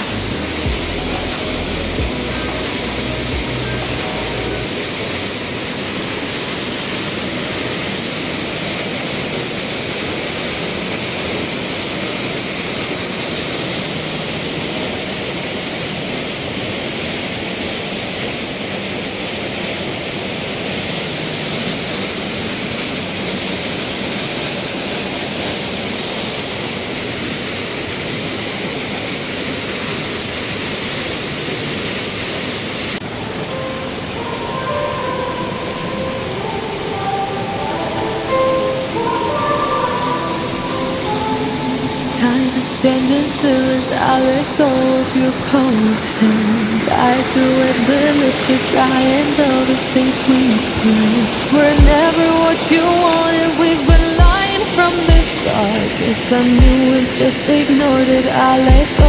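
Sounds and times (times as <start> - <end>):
stream and waterfall rushing: 0.0 - 59.0.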